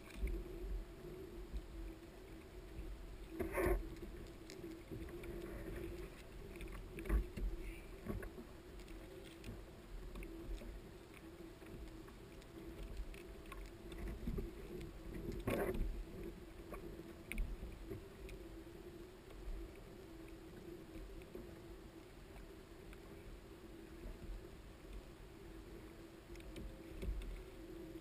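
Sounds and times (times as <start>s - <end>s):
low rumble of water and wind: 0.0s - 28.0s.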